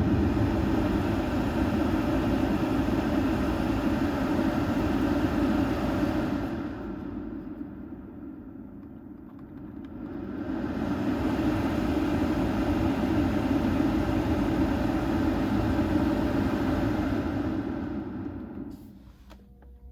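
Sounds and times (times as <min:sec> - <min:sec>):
blower fan rushing air: 0:00.0 - 0:19.2.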